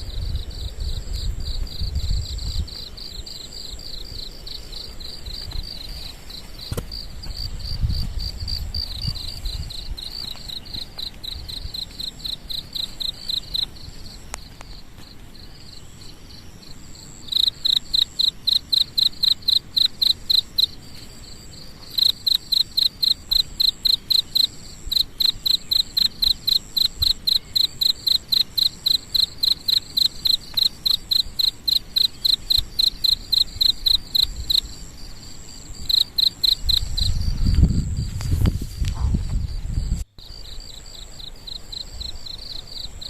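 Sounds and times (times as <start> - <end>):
insect chirping: 0.0 - 43.0.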